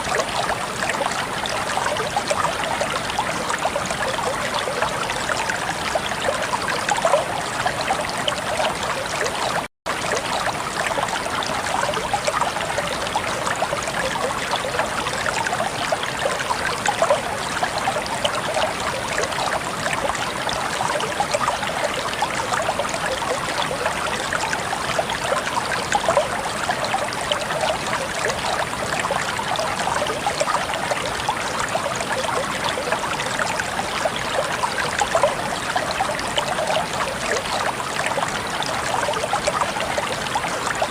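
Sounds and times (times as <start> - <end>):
water trickling and babbling: 0.0 - 40.9.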